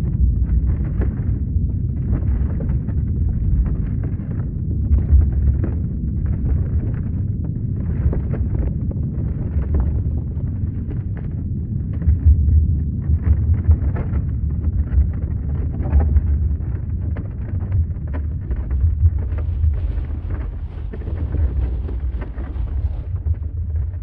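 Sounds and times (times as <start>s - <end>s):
crackles and rattles: 0.0s - 24.0s
deep low earthquake rumble: 0.0s - 24.0s.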